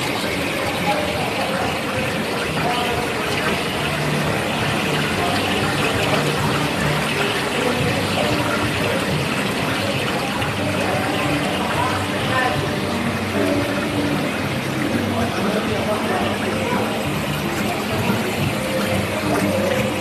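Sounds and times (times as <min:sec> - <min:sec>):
background chatter: 0:00.0 - 0:20.0
bubbling water from aerators: 0:00.0 - 0:20.0.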